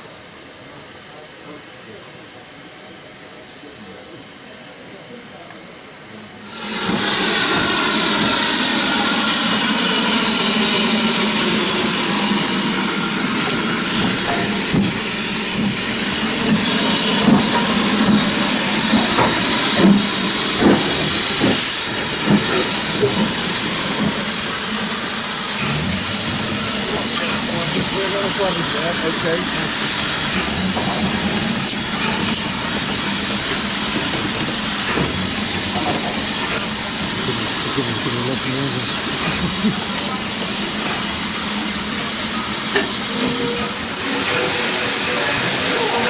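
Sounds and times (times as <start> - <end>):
steam hissing: 6.4 - 46.0.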